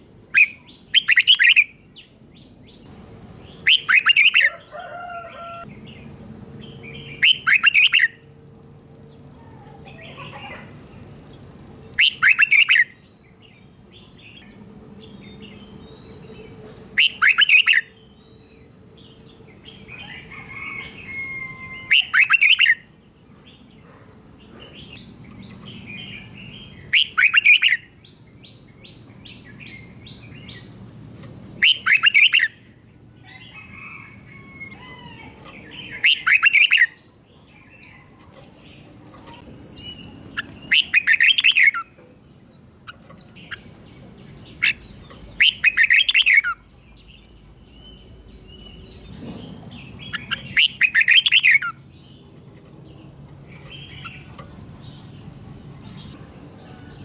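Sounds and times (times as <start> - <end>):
bird singing rapid song phrases: 0.2 - 4.7, 5.4 - 8.3, 9.0 - 33.7, 34.8 - 57.0.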